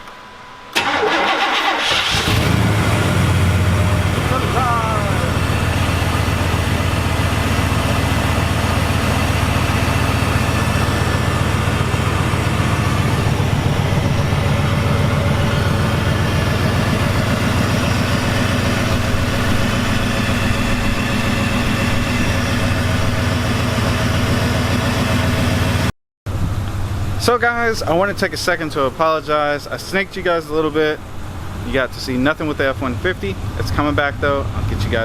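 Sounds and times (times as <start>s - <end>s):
engine idling: 0.8s - 35.0s.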